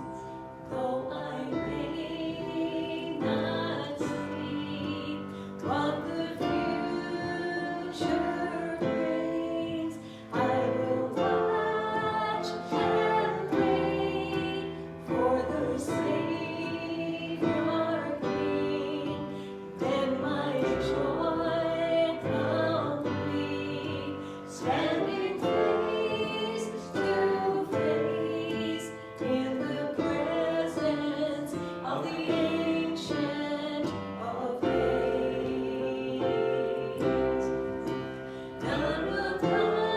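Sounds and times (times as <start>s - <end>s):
piano accompaniment: 0.0s - 39.9s
voices singing slow song: 0.0s - 39.9s.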